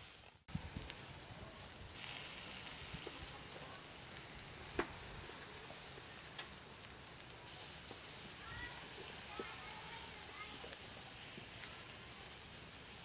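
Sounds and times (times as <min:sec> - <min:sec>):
snails sizzling on a grill: 0:00.0 - 0:13.0.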